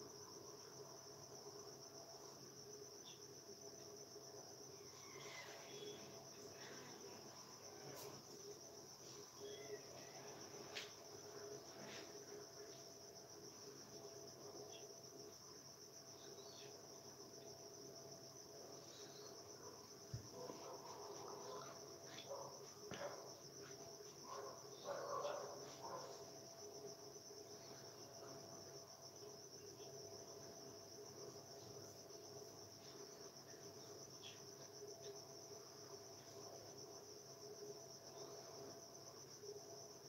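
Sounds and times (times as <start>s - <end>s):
insect chirring: 0.0s - 40.0s.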